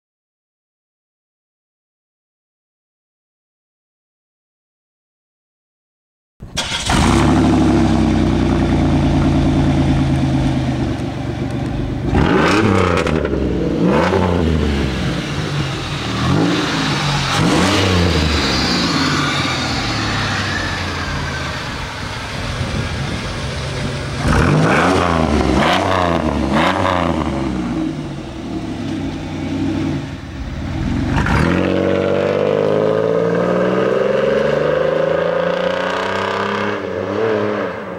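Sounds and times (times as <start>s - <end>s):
loud car engine revving: 6.6s - 37.9s.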